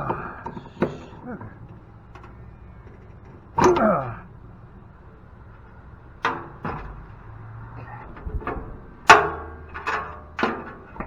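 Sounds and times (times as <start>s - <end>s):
metal parts knocking and clanking: 0.0s - 11.0s.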